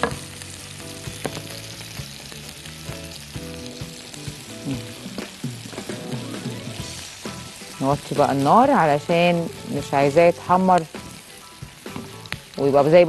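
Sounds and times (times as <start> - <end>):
faint background music: 0.0 - 13.0
onions sizzling in a frying pan: 0.0 - 13.0.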